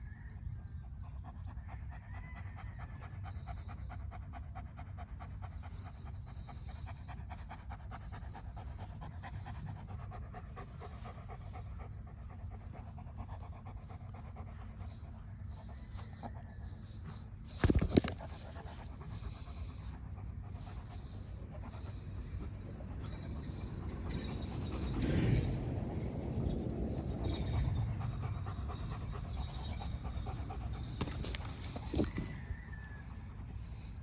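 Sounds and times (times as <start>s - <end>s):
dog panting: 0.6s - 34.0s.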